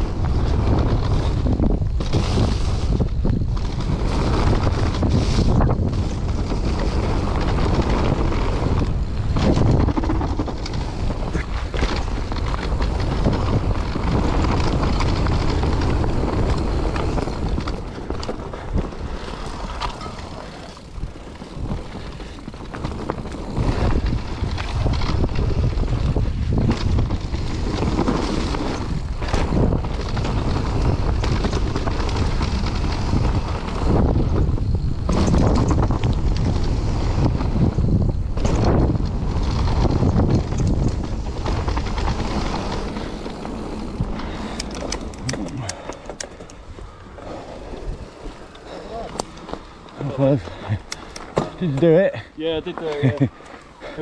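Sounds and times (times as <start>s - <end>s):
bike rattling and knocking: 0.0s - 54.0s
bike tyres rumbling on dirt: 0.0s - 54.0s
wind buffeting microphone: 0.0s - 54.0s.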